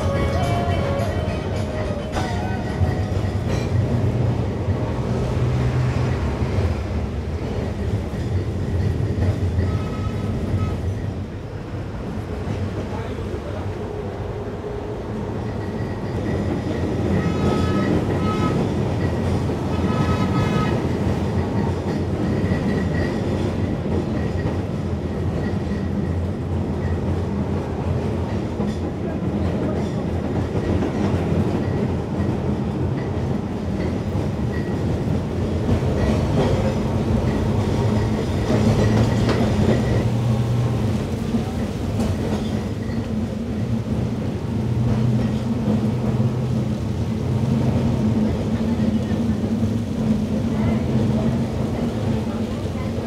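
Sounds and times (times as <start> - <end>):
tram rumbling on rails: 0.0 - 53.0.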